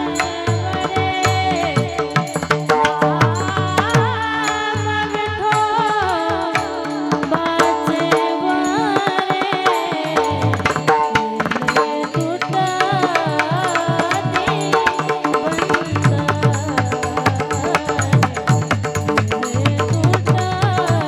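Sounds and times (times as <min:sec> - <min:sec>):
hand drum rhythm: 0:00.0 - 0:21.0.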